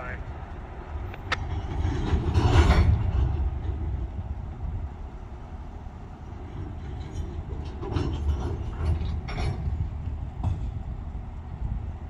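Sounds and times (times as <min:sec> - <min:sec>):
train cars rumbling on track: 0:00.0 - 0:12.0
wheels and couplings clanking: 0:00.0 - 0:12.0.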